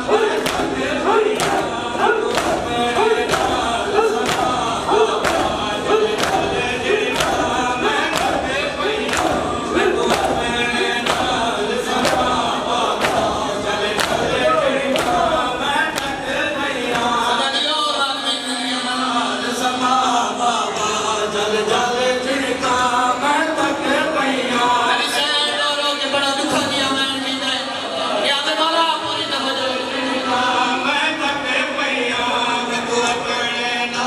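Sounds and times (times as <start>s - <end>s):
men chanting in unison: 0.0s - 34.0s.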